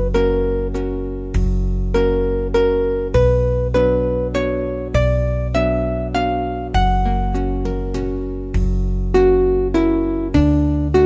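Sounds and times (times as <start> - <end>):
plucked-string melody: 0.0 - 11.0
sustained bass notes: 0.0 - 11.0.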